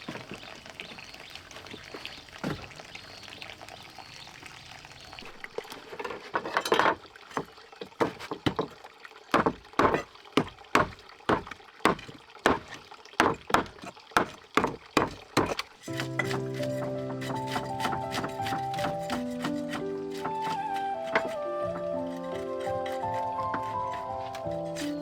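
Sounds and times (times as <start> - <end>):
water splashing rhythmically: 0.0 - 25.0.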